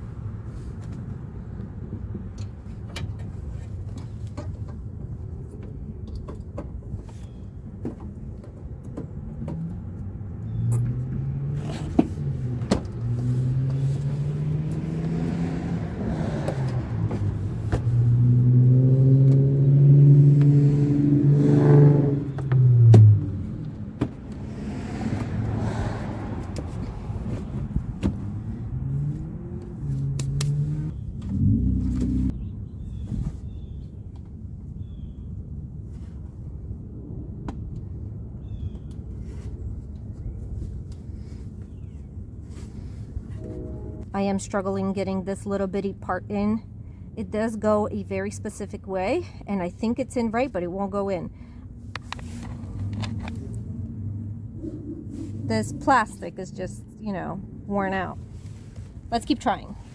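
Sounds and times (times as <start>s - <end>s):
car engine rumbling: 0.0s - 59.9s.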